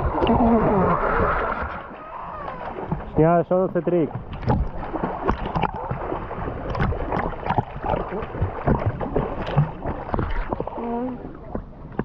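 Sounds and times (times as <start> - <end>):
water splashing from swimmers: 0.0 - 12.0.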